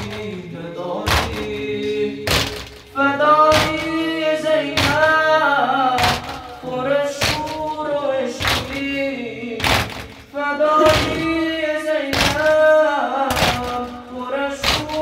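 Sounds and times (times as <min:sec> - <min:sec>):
man chanting over microphone: 0:00.0 - 0:15.0
men beating chests in unison: 0:00.0 - 0:15.0.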